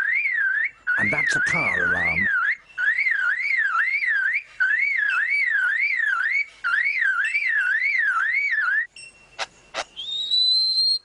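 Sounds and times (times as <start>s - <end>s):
bird mimicking car alarm: 0.0s - 11.0s.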